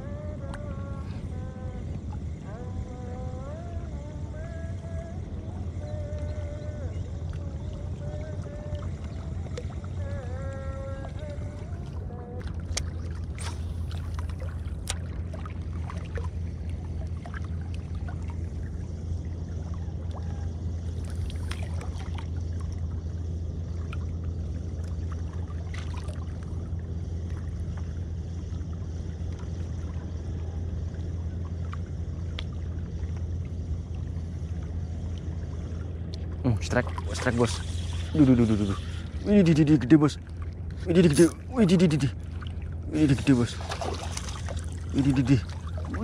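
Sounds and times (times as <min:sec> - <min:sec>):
steady low drone: 0:00.0 - 0:46.0.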